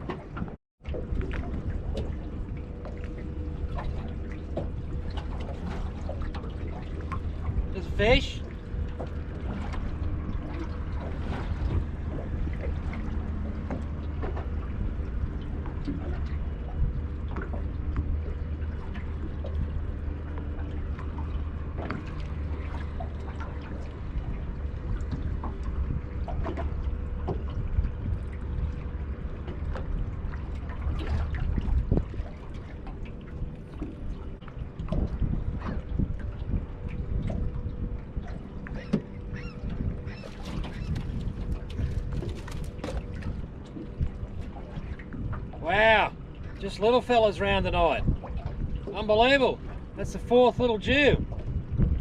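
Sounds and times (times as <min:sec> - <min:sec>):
water splashing against hull: 0:00.0 - 0:52.0
wind rumbling on microphone: 0:00.0 - 0:52.0.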